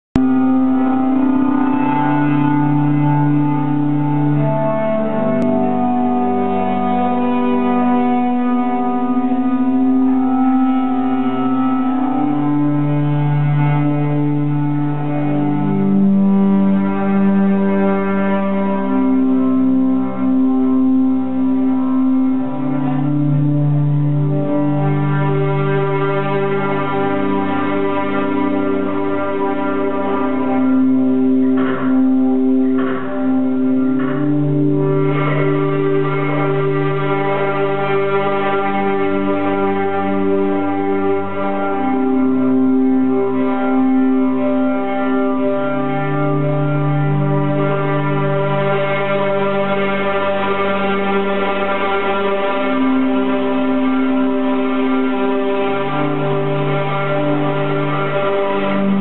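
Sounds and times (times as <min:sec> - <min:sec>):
electric guitar drone: 0:00.1 - 0:59.0.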